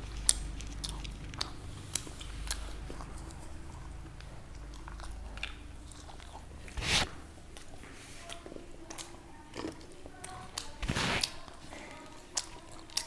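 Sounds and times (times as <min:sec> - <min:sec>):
person chewing food: 0:00.0 - 0:13.0
small crunches: 0:00.0 - 0:13.0.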